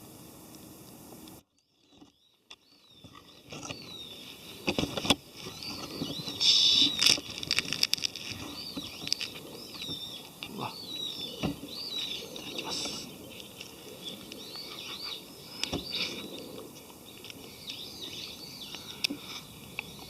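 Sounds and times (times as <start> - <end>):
steady hiss: 0.0 - 1.5, 2.9 - 20.0
small birds chirping: 1.6 - 20.0.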